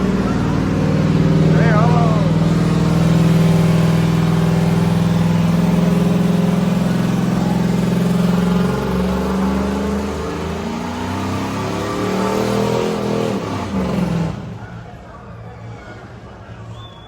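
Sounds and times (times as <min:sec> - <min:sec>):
car engine at high revs: 0:00.0 - 0:14.8.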